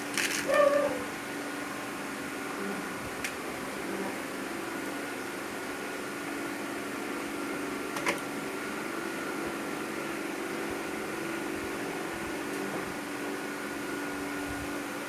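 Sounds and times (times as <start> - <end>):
machine hum with faint whine: 0.0 - 15.0.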